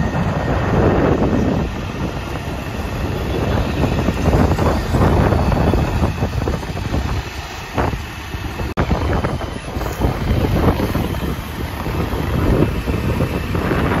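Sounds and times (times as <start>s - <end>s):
moving vehicle rumble: 0.0s - 14.0s
wind buffeting microphone: 0.0s - 14.0s.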